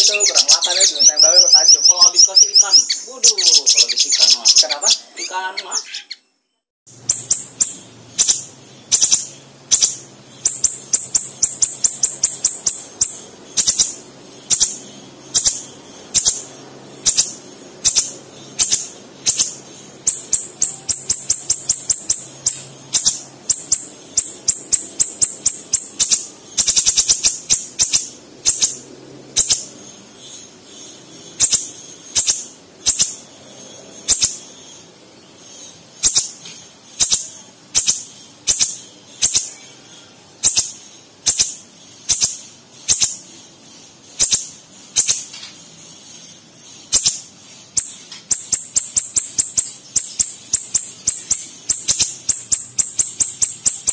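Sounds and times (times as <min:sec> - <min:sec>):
bird singing sharp chipping notes: 0:00.0 - 0:53.9.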